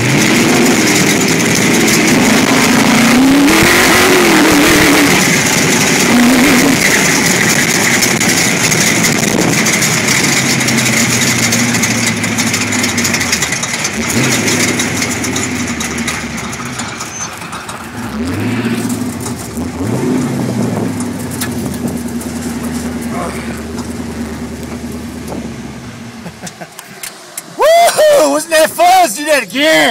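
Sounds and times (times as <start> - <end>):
dune buggy engine revving: 0.0 - 29.9.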